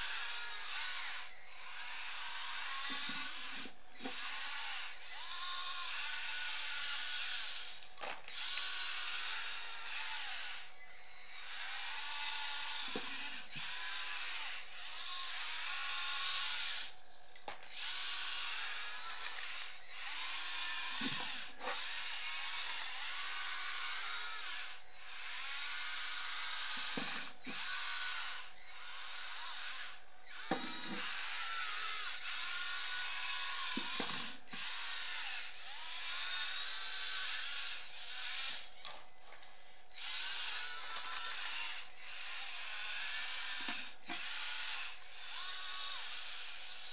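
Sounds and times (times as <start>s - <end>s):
small electric motors whining: 0.0s - 46.9s.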